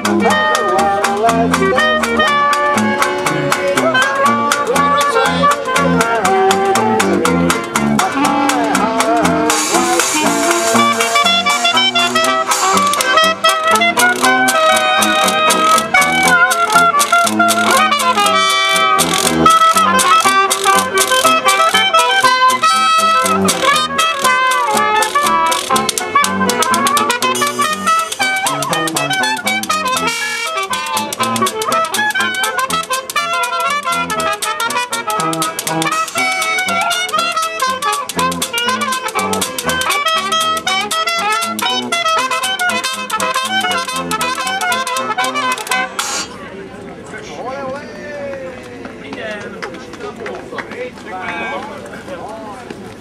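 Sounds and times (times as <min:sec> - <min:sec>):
trumpet: 0:00.0 - 0:46.4
tuba: 0:00.0 - 0:46.4
washboard beat: 0:00.0 - 0:46.4
clarinet: 0:00.0 - 0:46.5
banjo: 0:00.0 - 0:46.8.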